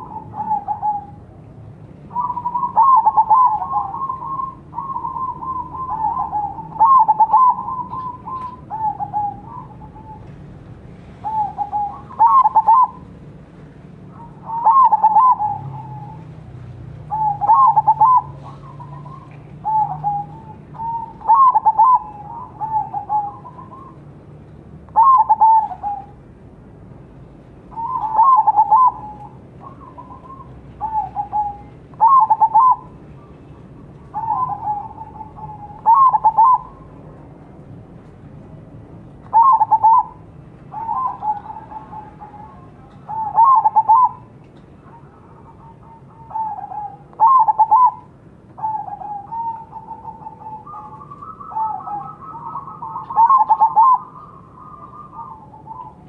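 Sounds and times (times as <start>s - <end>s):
dove cooing: 0.0s - 13.2s, 14.0s - 16.3s, 17.0s - 24.1s, 24.9s - 26.2s, 27.7s - 37.0s, 39.2s - 56.0s.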